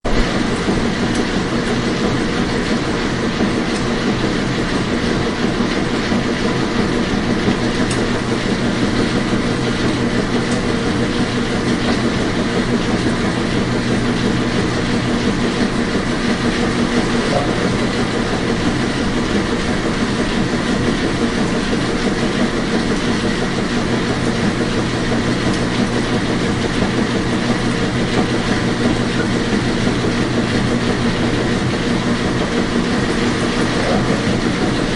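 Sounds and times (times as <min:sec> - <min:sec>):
washing machine running: 0:00.0 - 0:34.9.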